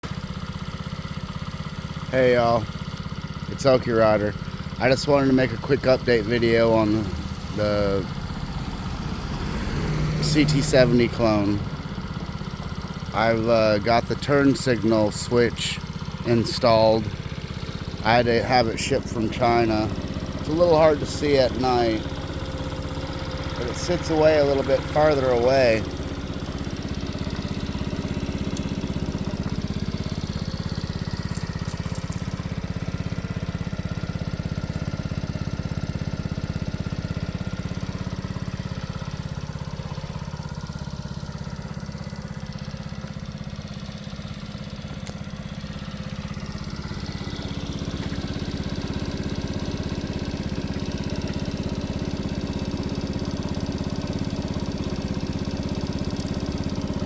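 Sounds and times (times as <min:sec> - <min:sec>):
minibike engine idling: 0:00.0 - 0:57.0.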